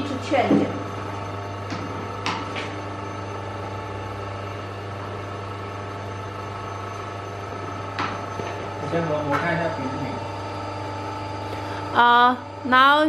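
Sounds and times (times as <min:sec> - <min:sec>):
hydraulic machine humming: 0:00.0 - 0:13.0.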